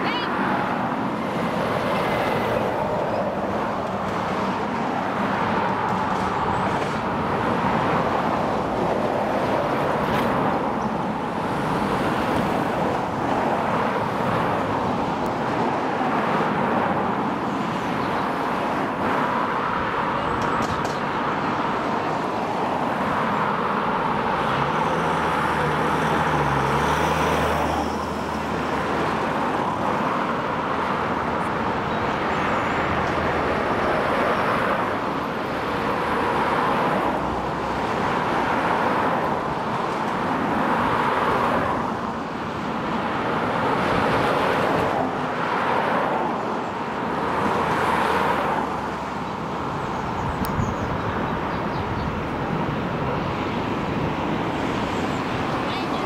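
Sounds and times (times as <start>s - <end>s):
cars passing: 0.0s - 56.0s
continuous traffic noise: 0.0s - 56.0s.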